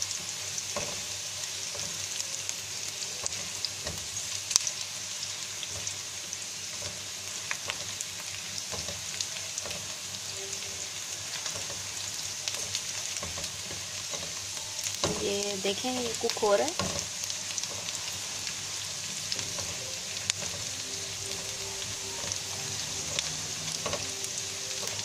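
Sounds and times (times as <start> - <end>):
onion sizzling in oil: 0.0 - 25.0.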